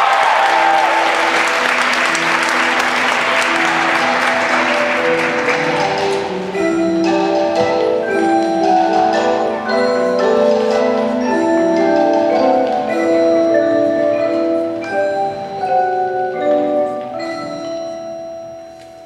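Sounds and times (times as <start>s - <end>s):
marimba and vibraphone ensemble: 0.3s - 19.0s.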